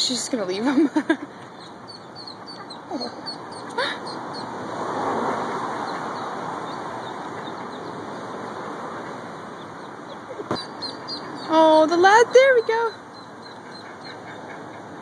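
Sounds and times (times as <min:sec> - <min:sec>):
rushing background noise: 0:00.0 - 0:15.0
ducklings peeping: 0:01.3 - 0:04.6, 0:05.8 - 0:15.0.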